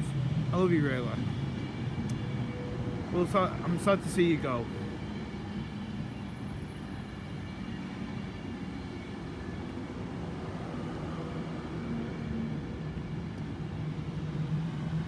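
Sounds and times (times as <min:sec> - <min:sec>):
electric train humming: 0:00.0 - 0:15.0
faint steady tones: 0:00.0 - 0:15.0.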